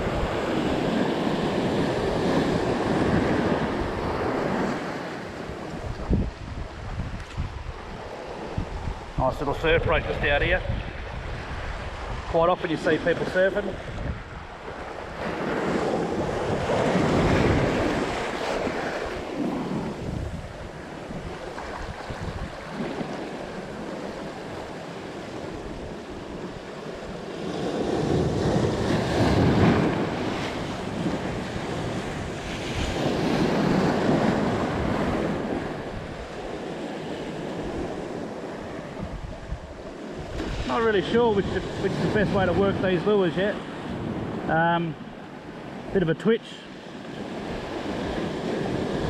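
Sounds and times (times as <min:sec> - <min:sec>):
wind buffeting microphone: 0:00.0 - 0:46.0
ocean surf washing over rocks: 0:00.0 - 0:49.0.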